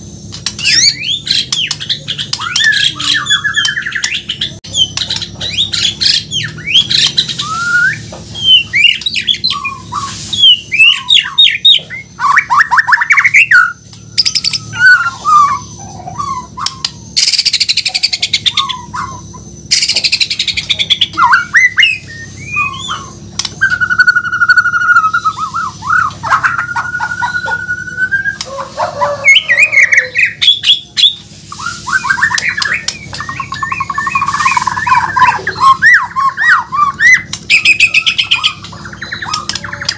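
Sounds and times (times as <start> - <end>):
songbird singing varied song: 0.3 - 39.9.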